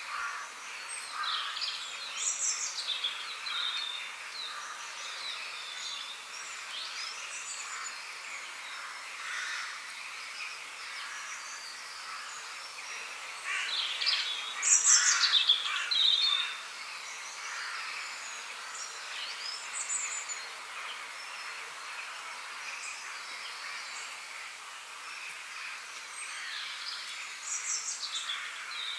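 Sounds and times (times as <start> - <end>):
songbirds calling and singing: 0.0 - 28.9.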